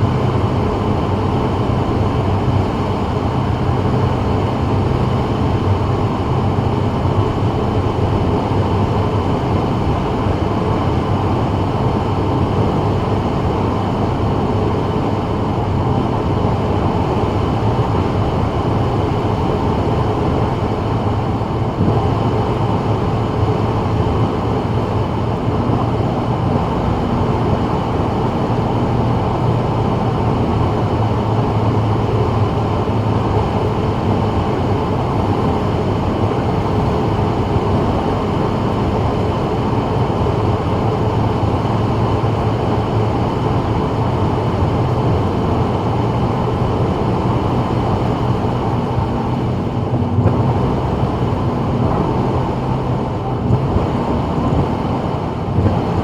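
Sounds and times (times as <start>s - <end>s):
low car drone: 0.0s - 56.0s.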